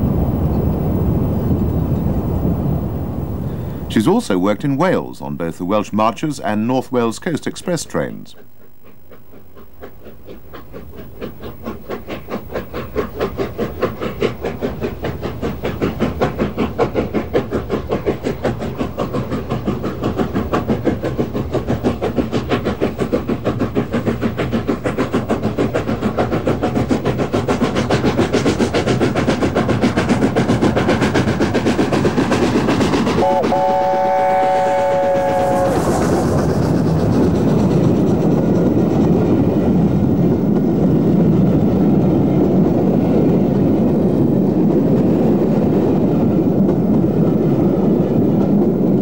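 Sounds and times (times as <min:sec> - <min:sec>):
steam locomotive exhaust beating: 0:00.0 - 0:49.0.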